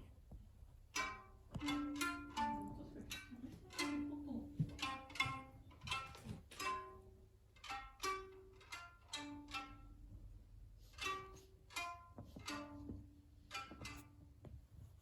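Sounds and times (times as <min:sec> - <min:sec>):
plucked string melody: 0:00.9 - 0:14.4.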